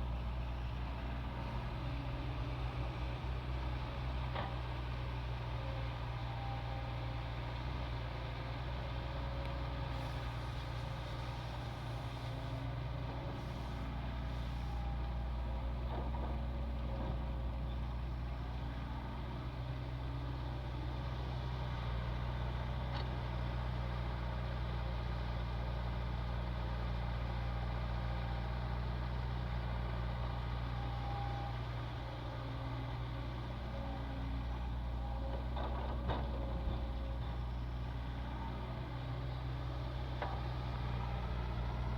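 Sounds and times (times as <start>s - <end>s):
heavy diesel machinery hum: 0.0s - 41.9s.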